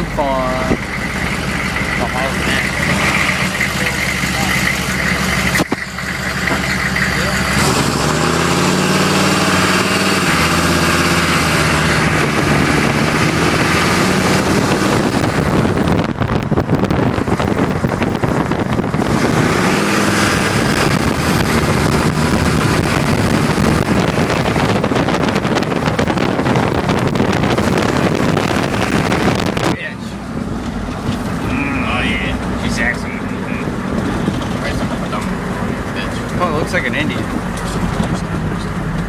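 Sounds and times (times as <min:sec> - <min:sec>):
diesel pickup engine accelerating: 0:00.0 - 0:39.0
wind and road noise: 0:00.0 - 0:39.0.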